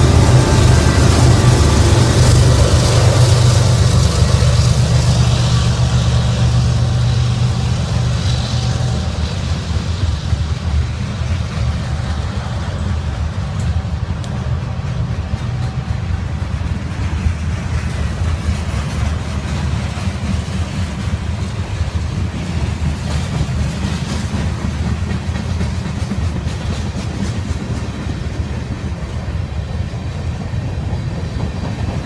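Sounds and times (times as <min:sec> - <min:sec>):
train wheels rolling on rails: 0:00.0 - 0:32.0.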